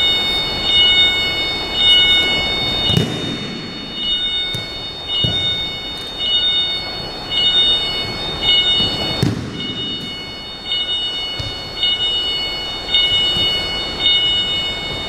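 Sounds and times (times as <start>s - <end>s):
high-pitched whine: 0.0s - 15.0s.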